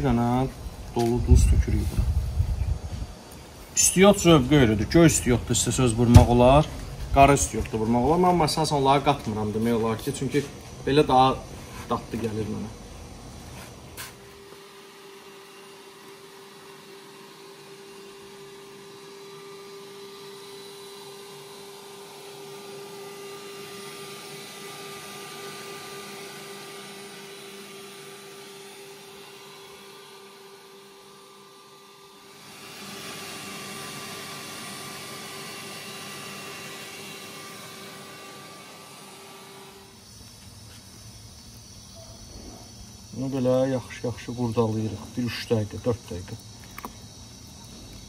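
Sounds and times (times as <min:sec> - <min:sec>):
small electric motor whining: 0:00.0 - 0:48.0.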